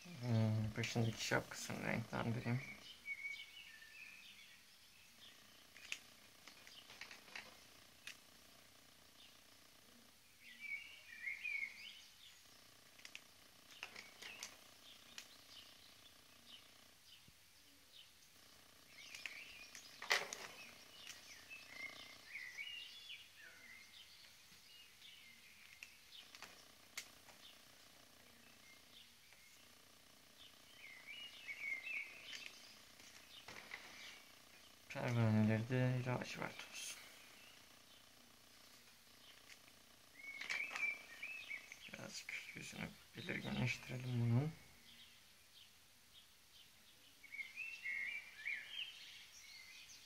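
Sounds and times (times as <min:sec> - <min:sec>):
faint birds chirping: 0:00.0 - 0:50.0.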